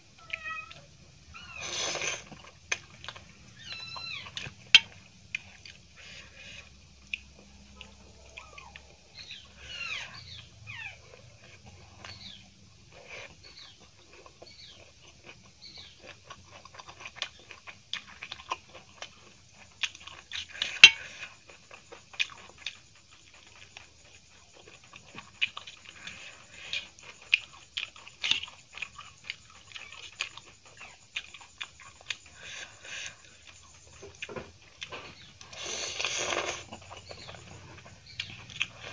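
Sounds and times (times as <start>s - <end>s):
wet chewing and crunching: 0.0s - 38.9s.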